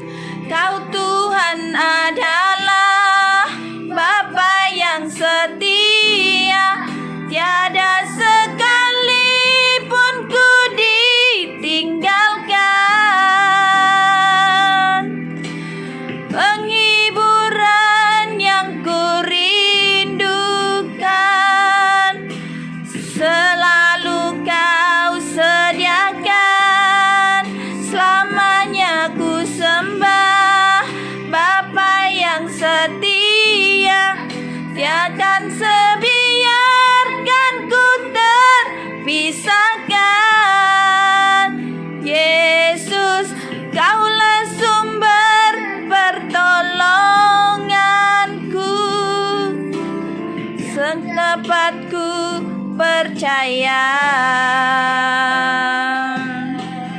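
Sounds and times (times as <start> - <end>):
woman singing with vibrato: 0.0 - 15.2, 16.3 - 50.0, 50.6 - 56.9
instrumental backing: 0.0 - 56.9.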